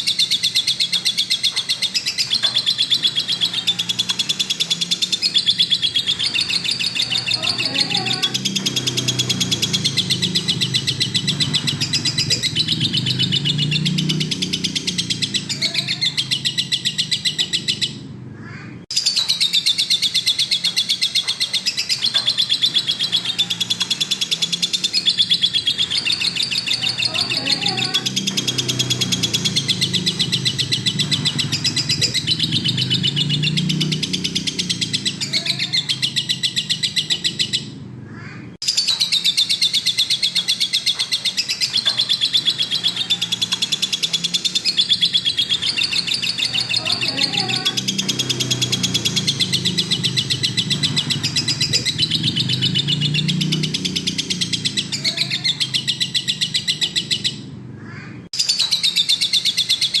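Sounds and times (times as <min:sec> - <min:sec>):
lovebird chirping rapidly: 0:00.0 - 0:18.1, 0:18.9 - 0:37.8, 0:38.6 - 0:57.5, 0:58.4 - 1:00.0.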